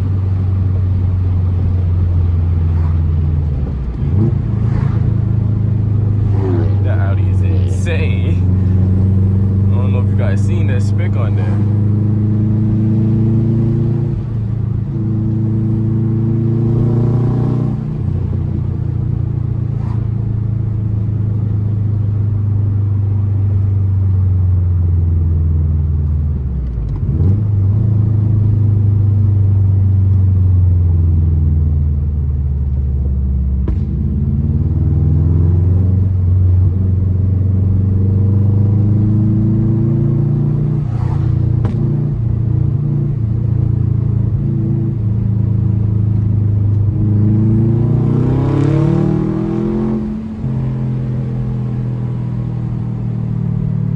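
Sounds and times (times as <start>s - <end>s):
car engine rumbling: 0.0s - 53.9s.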